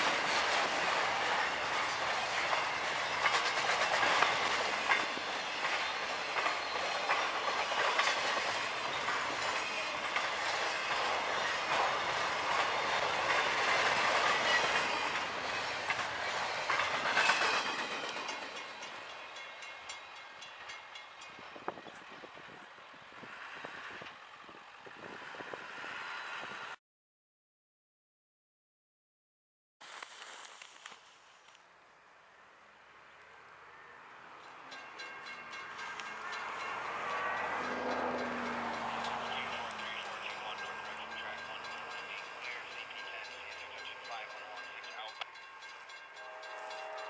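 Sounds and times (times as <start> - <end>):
freight train wheels rumbling: 0.0 - 26.8, 34.4 - 47.0.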